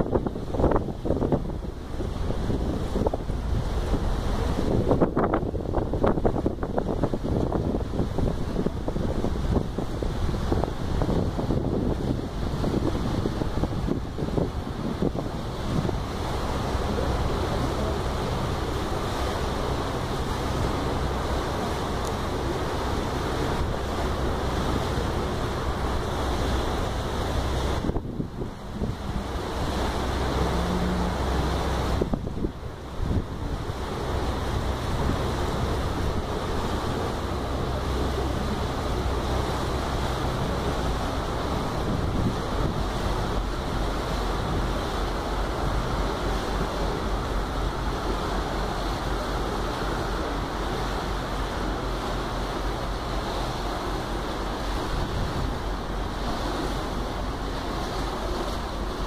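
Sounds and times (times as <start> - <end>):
boat engine low rumble: 0.0 - 59.0
water rushing: 0.0 - 59.0
wind buffeting microphone: 0.0 - 59.0.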